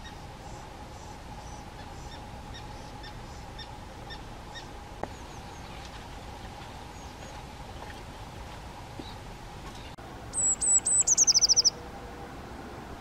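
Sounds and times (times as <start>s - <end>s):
bird calling: 0.0s - 8.1s, 9.0s - 11.8s
steady hum: 0.0s - 13.0s.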